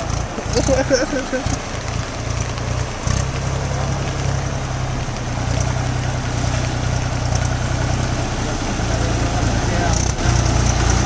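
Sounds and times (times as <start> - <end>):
constant rushing hiss: 0.0 - 11.0
tractor engine throbbing: 0.0 - 11.0.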